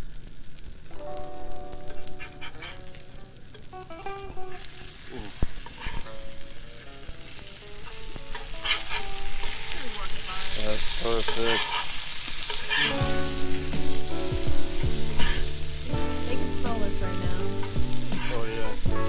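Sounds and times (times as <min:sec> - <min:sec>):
fish sizzling in a skillet: 0:00.0 - 0:19.0
calm background music: 0:00.9 - 0:10.9, 0:12.6 - 0:19.0.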